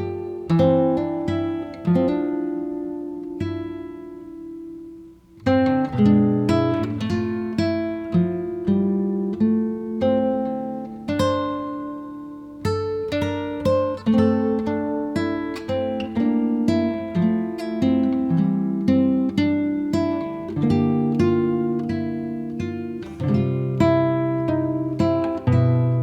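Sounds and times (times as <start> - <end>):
acoustic guitar music: 0.0 - 26.0.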